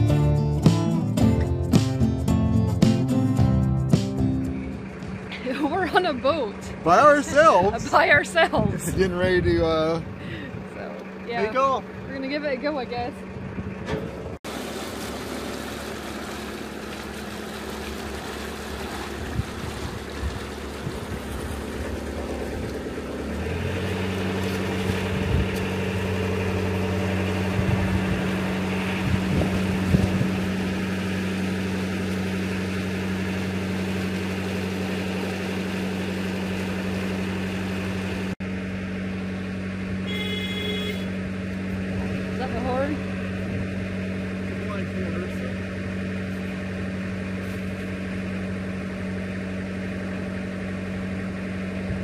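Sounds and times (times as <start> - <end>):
diesel boat engine running: 0.0 - 52.0.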